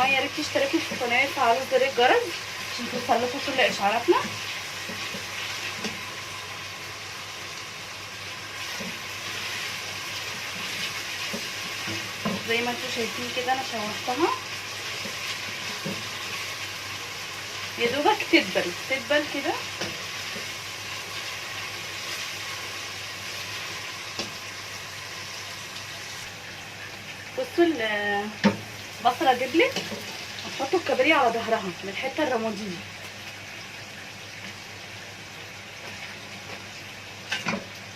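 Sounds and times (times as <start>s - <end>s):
onions frying in a pot: 0.0s - 37.9s.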